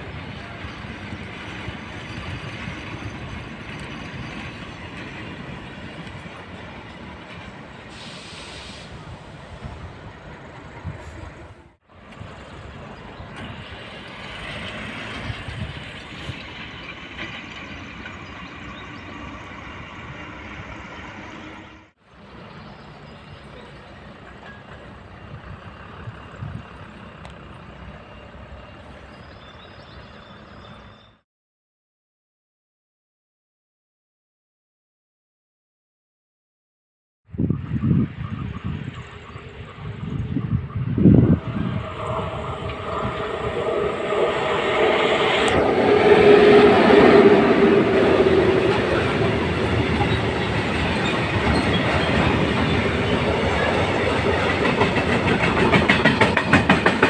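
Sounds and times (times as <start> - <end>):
rail vehicle engine and wheel noise: 0.0 - 31.2, 37.3 - 57.0.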